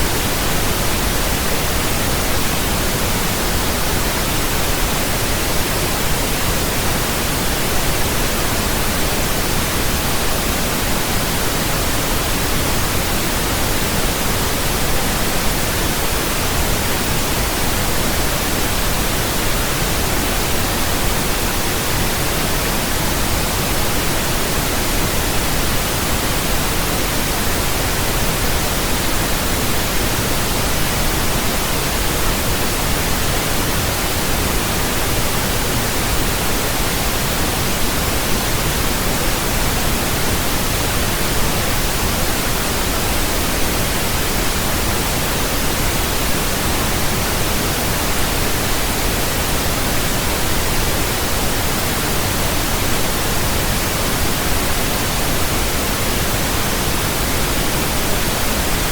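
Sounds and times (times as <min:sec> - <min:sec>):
pink noise hiss: 0:00.0 - 0:58.9.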